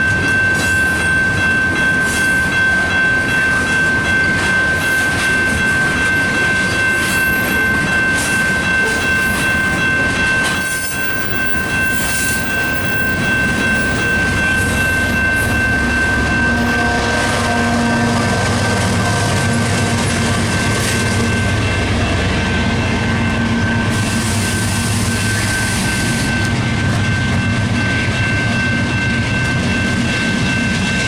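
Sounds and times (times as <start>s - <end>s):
freight train rolling past: 0.0s - 31.0s
high-pitched ringing: 0.0s - 31.0s.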